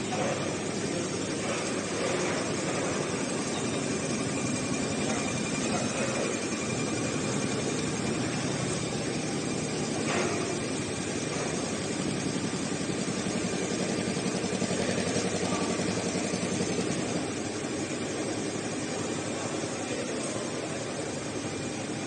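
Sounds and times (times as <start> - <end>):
sewing machine chattering: 0.0 - 22.0.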